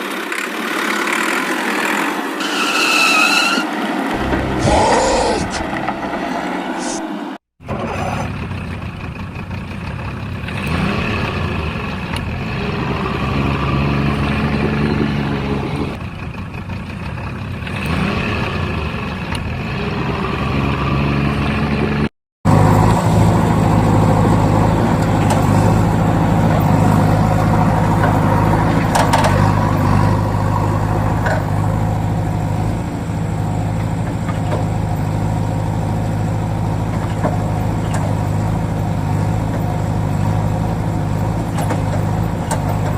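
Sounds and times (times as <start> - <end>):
truck engine revving: 0.4 - 42.9
engine running at steady pitch: 7.6 - 42.9.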